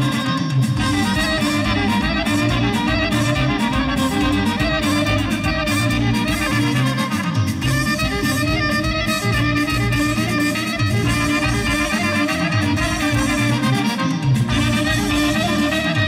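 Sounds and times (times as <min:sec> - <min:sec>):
clarinet melody: 0:00.0 - 0:16.0
folk dance music: 0:00.0 - 0:16.0
repeating bass line: 0:00.0 - 0:16.0.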